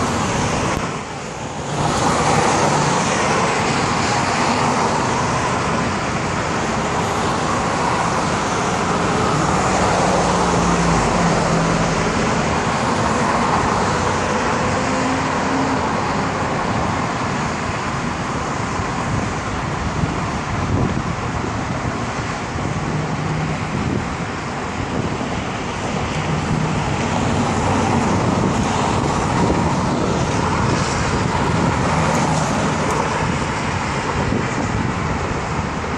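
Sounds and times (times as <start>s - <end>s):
cars driving past: 0.0s - 35.9s.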